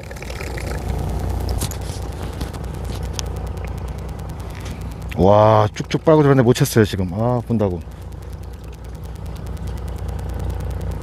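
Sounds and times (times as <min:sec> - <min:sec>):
boat engine rumbling: 0:00.0 - 0:11.0
faint scraping and ticking: 0:00.0 - 0:11.0.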